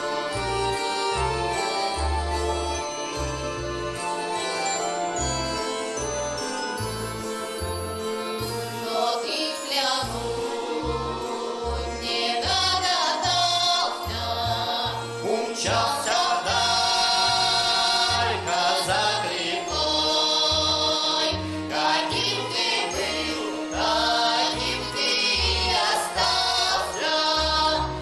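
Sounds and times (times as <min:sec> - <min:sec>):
button accordion: 0:00.0 - 0:28.0.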